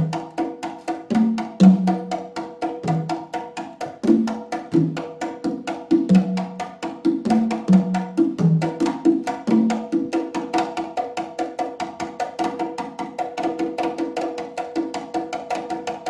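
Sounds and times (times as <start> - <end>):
congas played by hand: 0.0 - 16.0.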